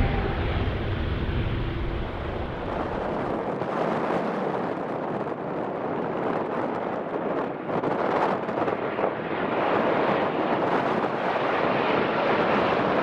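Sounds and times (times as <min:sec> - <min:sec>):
jet engines of landing airliners: 0:00.0 - 0:13.0
wind on microphone: 0:00.0 - 0:13.0.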